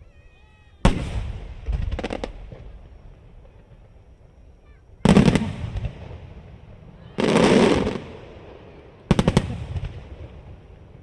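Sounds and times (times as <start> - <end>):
firework crackling: 0.4 - 11.0
firework bangs: 0.8 - 11.0.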